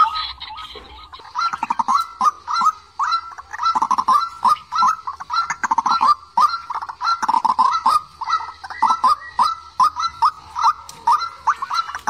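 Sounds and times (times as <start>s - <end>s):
waterhen honking calls: 0.0s - 12.0s.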